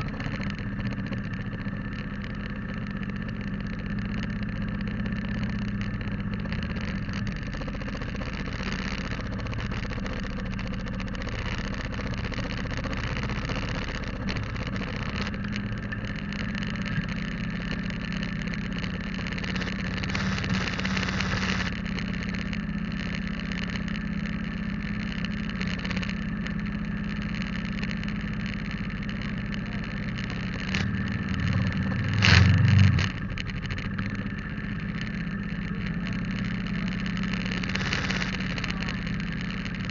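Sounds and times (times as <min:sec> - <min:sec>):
motorcycle engine humming: 0:00.0 - 0:39.9
road and wind noise: 0:00.0 - 0:39.9.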